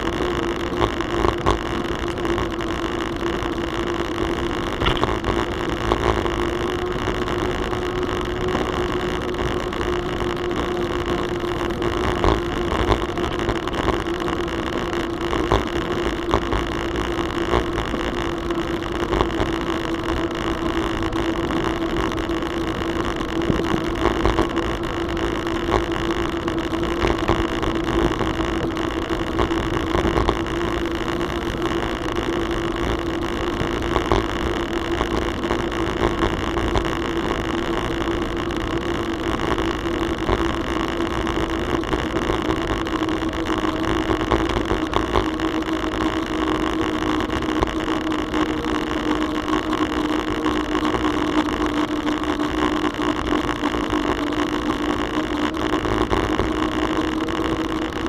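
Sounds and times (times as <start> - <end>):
constant hum: 0.0 - 58.0.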